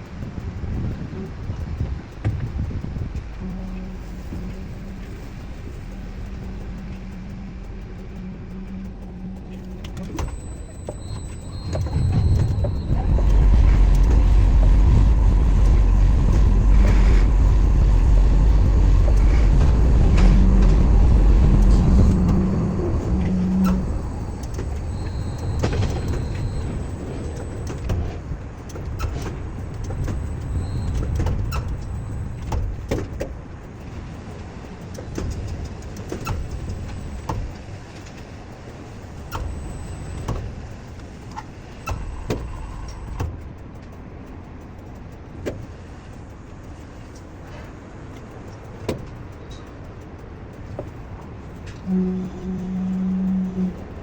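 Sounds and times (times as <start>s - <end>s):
heavy machinery rumbling: 0.0s - 54.0s
thin high whine: 0.0s - 54.0s.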